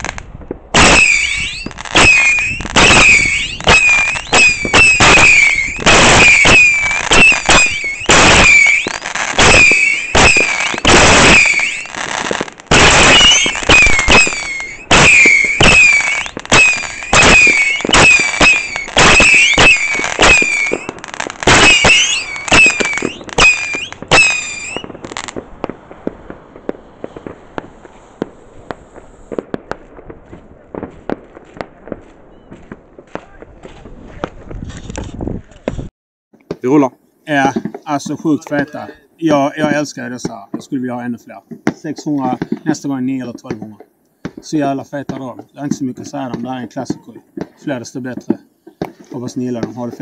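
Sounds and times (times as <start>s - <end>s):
whistling firework missiles: 0.0s - 35.9s, 41.3s - 50.0s
faint firework crackles: 0.0s - 50.0s.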